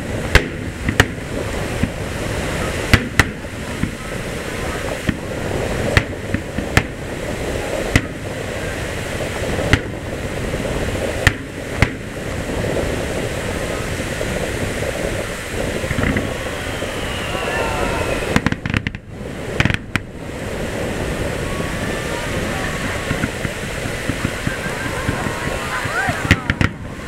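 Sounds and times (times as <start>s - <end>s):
firework shells bursting: 0.0s - 21.3s, 22.4s - 27.0s.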